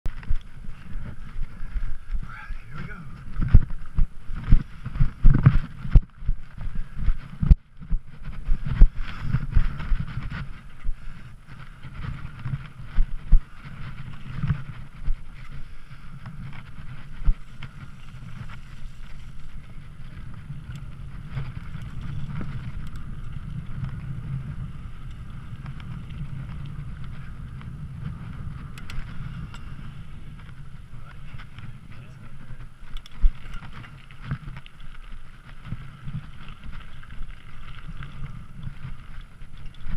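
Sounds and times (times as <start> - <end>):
bike knocking and rattling: 0.1 - 39.9
bike tyre rumble on dirt: 0.1 - 39.9
wind on microphone: 0.1 - 39.9.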